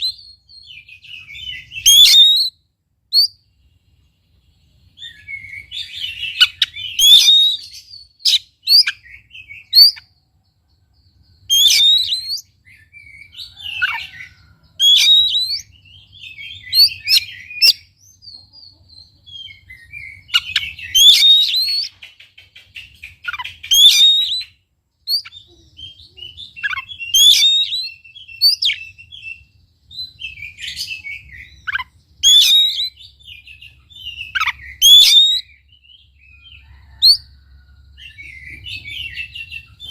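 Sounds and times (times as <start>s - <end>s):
bird singing whistled phrases: 0.0s - 3.4s, 5.0s - 10.1s, 11.4s - 18.3s, 19.2s - 22.0s, 22.9s - 37.2s.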